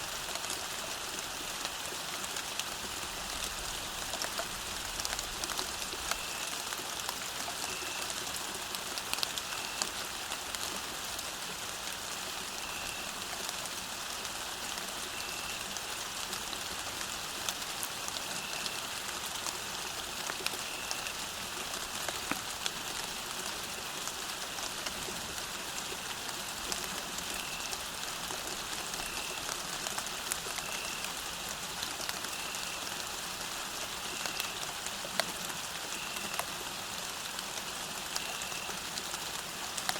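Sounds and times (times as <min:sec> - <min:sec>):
rain falling on a path: 0:00.0 - 0:39.9.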